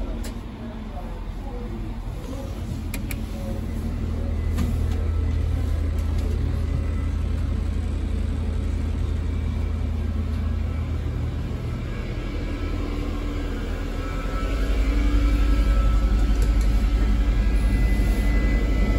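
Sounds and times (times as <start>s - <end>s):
train diesel engine idling: 0.0s - 18.9s.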